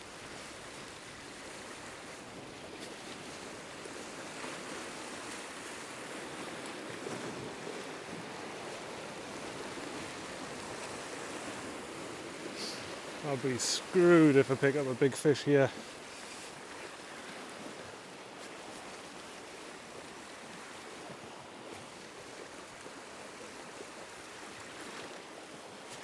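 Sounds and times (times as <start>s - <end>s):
surf washing around rocks: 0.0s - 26.0s.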